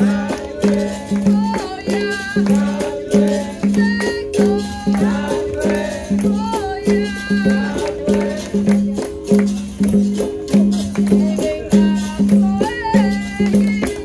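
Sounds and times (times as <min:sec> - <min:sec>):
voices singing: 0:00.0 - 0:09.4, 0:10.7 - 0:14.0
hand percussion: 0:00.0 - 0:14.0
shaken rattle: 0:00.0 - 0:14.0.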